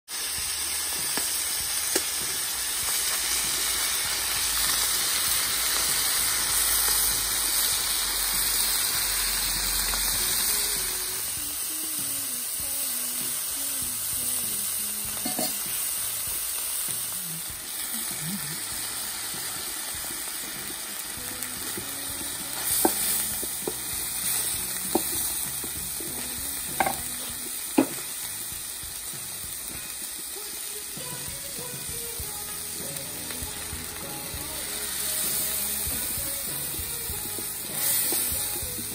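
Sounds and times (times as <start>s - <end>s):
meat and onions sizzling: 0.1s - 38.9s.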